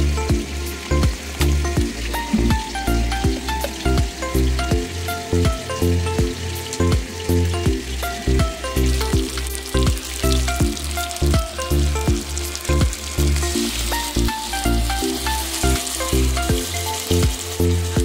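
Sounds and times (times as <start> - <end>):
background music with steady beat: 0.0 - 18.0
fish frying in oil: 0.0 - 18.0.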